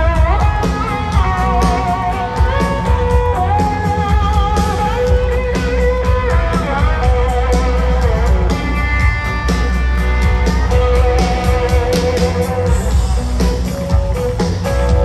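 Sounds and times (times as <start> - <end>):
country-rock band playing: 0.0 - 15.0.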